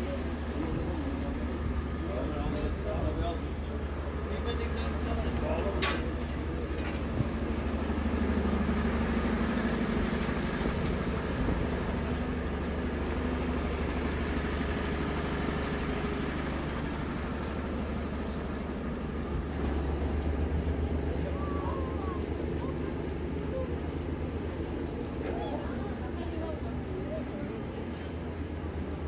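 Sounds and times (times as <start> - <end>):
vacuum truck engine hum: 0.0 - 29.0.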